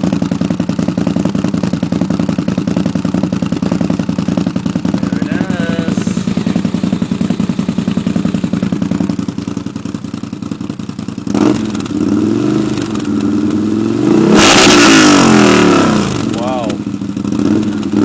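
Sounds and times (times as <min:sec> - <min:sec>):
engine idling and revving: 0:00.0 - 0:18.0.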